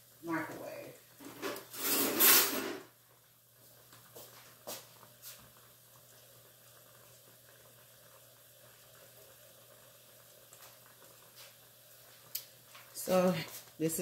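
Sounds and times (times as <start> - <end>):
faint simmering in pan: 0.0 - 14.0.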